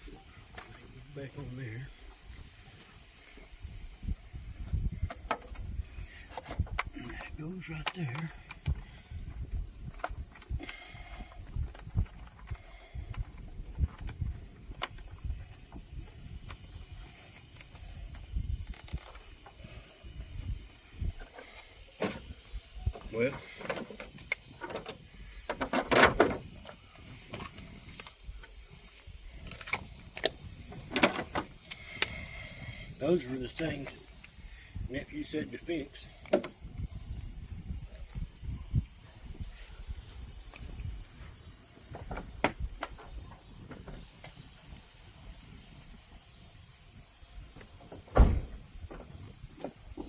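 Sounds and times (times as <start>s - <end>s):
steady faint hiss: 0.0s - 50.0s.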